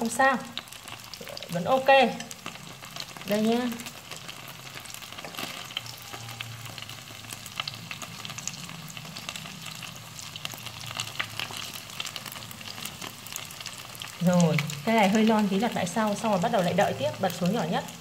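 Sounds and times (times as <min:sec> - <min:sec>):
oil popping and crackling: 0:00.0 - 0:18.0
spring rolls sizzling in oil: 0:00.0 - 0:18.0.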